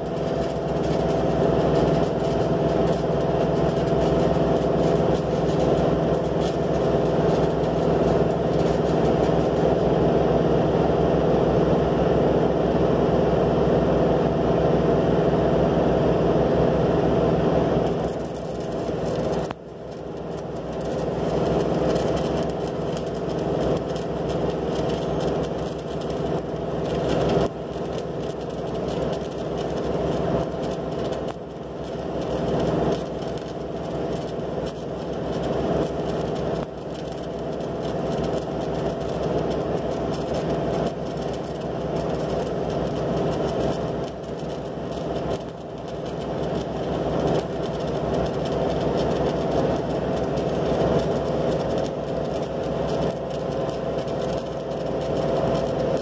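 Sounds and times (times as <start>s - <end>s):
welding arc hiss and crackle: 0.0s - 12.9s, 17.0s - 56.0s
welding machine hum: 0.0s - 56.0s.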